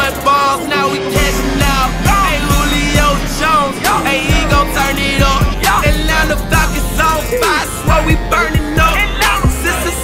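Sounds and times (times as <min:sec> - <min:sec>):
music with heavy bass beat: 0:00.0 - 0:10.0
person singing: 0:00.0 - 0:10.0.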